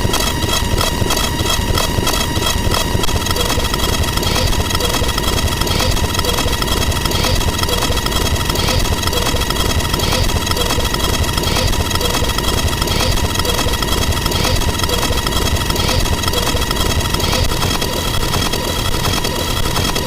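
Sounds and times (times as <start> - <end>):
loud engine-like drone: 0.0 - 20.0.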